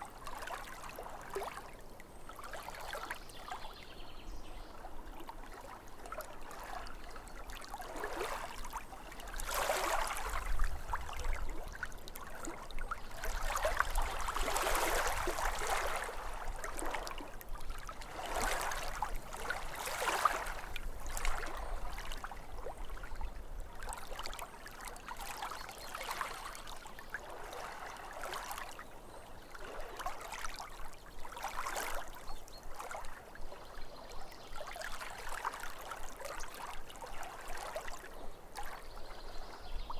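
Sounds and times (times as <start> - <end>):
lake waves lapping: 0.0 - 39.8.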